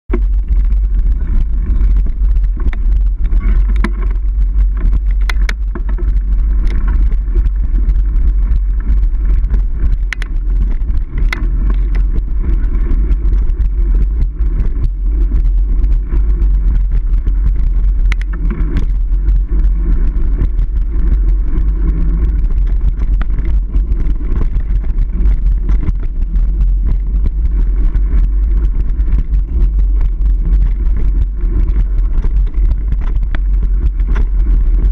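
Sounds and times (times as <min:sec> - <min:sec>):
wind and ride rumble on microphone: 0:00.0 - 0:34.9
bike clicks and rattles: 0:00.1 - 0:34.9.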